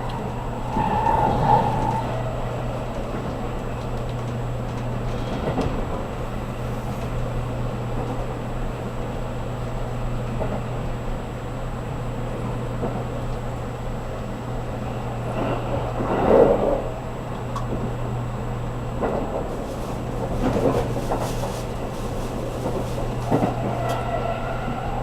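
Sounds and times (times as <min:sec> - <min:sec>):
constant low hum: 0:00.0 - 0:25.0
train wheels rumbling on rail: 0:00.0 - 0:25.0.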